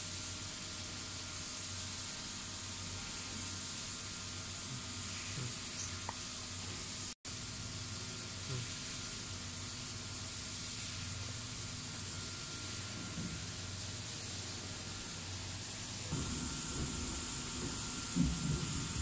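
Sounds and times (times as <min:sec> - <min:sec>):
laser marking machine hissing: 0:00.0 - 0:19.0.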